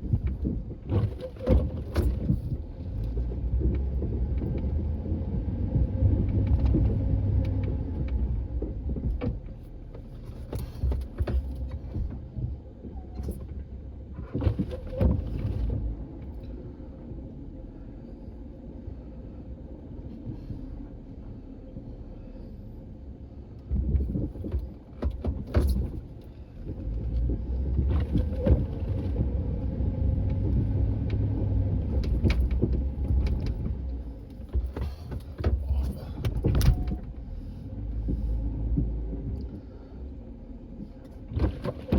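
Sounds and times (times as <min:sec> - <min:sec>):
vehicle engine rumble: 0:00.0 - 0:41.9.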